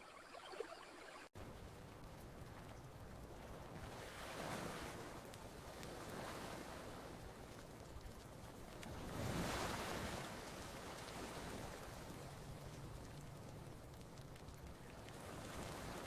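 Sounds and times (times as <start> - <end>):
faint campfire crackles: 0.0 - 16.0
ocean waves washing onto beach: 1.3 - 16.0.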